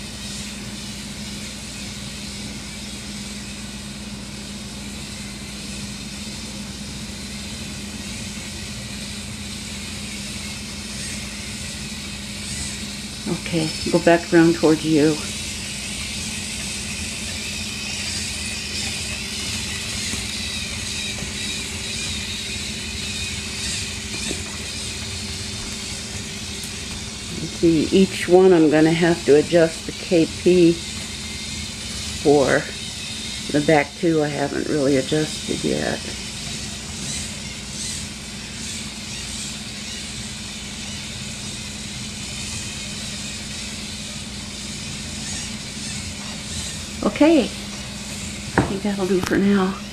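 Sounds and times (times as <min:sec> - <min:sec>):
electric drive motors whirring: 0:00.0 - 0:49.9
faint steady hum: 0:00.0 - 0:49.9.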